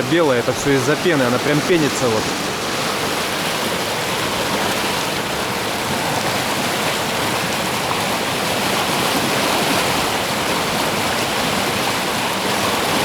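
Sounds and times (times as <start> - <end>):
river rushing through rapids: 0.0 - 13.0.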